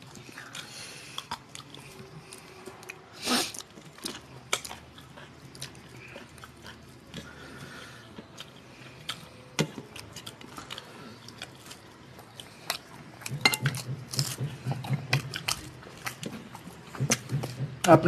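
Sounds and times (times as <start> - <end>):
wet chewing and lip smacking: 0.0 - 17.9.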